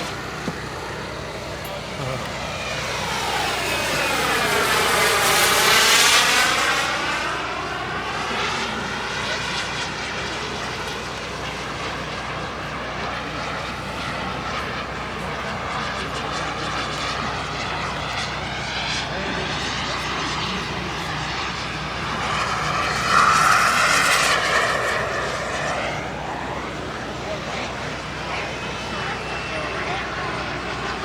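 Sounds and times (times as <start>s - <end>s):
model jet turbine fly-by: 0.0s - 31.0s.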